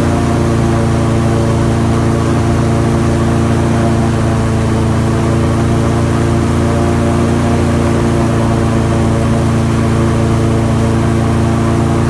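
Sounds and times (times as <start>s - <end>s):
airboat engine and propeller: 0.0s - 12.0s.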